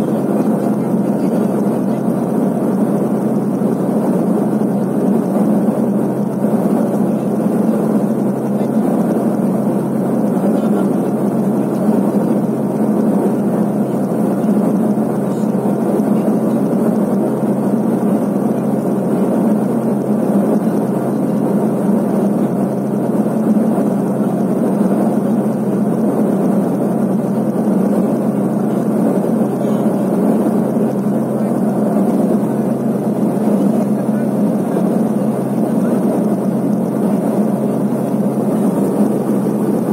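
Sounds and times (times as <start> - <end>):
turboprop engine and propeller drone: 0.0 - 39.9.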